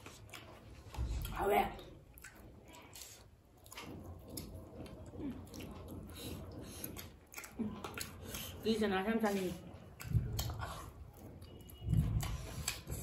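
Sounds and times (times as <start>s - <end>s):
people chewing: 0.0s - 13.0s.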